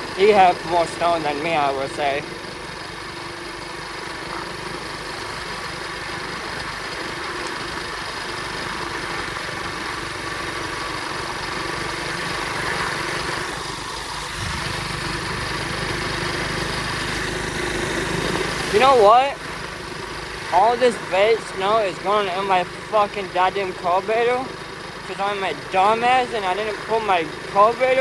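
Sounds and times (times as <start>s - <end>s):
small motorbike engine running: 0.0s - 28.0s.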